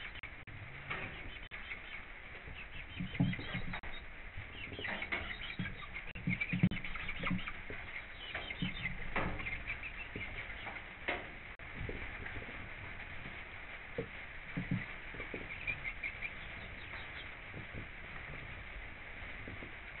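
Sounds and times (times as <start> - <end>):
chickens clucking and chirping: 0.0 - 20.0
chickens pecking and scratching: 0.0 - 20.0.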